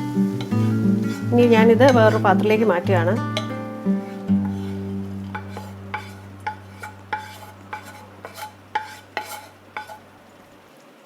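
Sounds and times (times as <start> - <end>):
metal spoon scraping a metal pan: 0.2 - 10.2.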